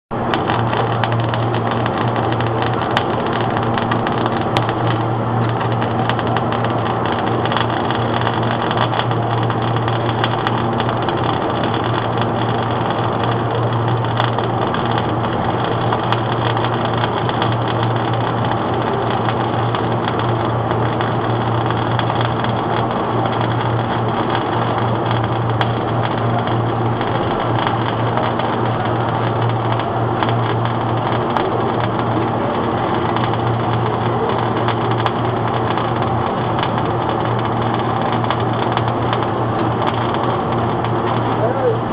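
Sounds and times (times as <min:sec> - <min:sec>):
welding arc crackling: 0:00.1 - 0:41.9.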